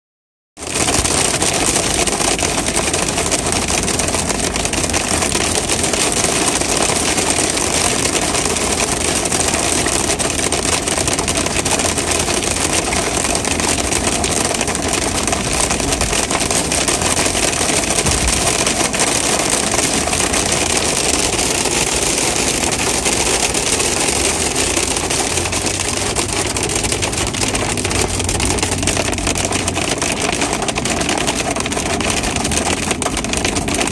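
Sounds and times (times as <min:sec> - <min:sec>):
hail clattering: 0:00.6 - 0:33.9.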